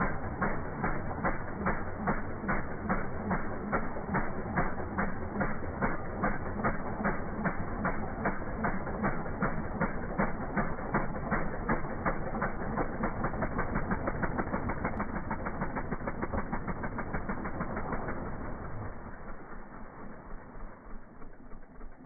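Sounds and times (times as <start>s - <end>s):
motorcycle engine knocking beat: 0.0s - 22.0s.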